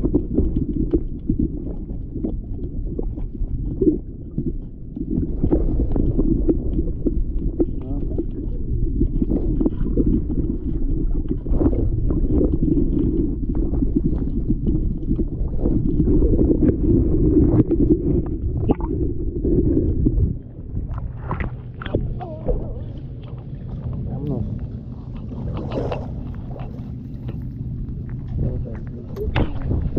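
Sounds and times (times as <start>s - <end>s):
muffled underwater rumble: 0.0s - 29.9s.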